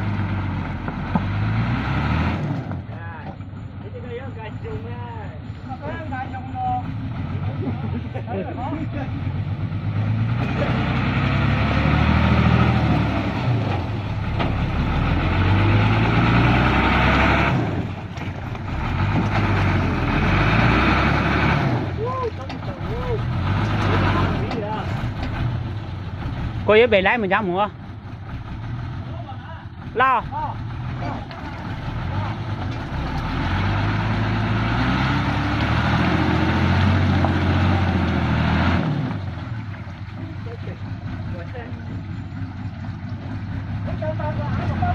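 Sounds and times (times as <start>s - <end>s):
truck diesel engine revving: 0.0s - 44.9s.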